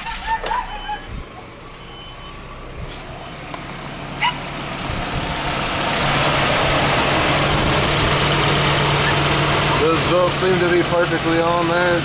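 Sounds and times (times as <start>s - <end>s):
pickup truck engine starting and idling: 0.0s - 12.0s.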